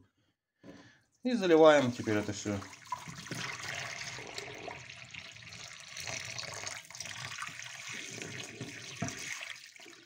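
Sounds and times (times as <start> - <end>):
water pouring into sink drain: 1.6 - 10.0.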